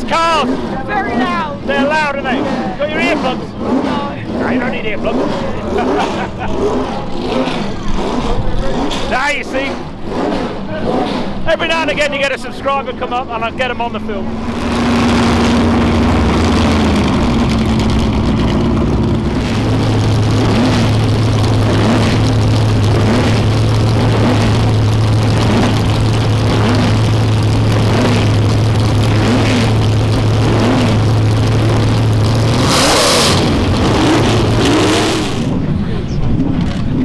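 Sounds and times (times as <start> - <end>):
racing car engine idling: 0.0 - 37.0.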